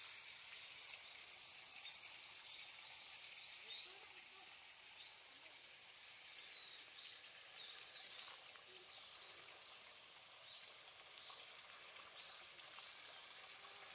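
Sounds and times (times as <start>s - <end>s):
faint steady hiss: 0.0s - 13.9s.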